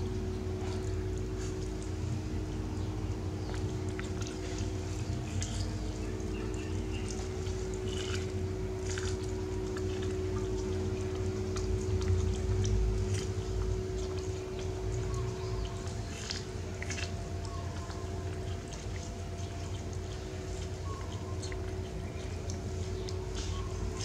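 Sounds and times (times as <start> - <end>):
steady low hum: 0.0 - 24.0
monkey chewing corn: 3.6 - 24.0.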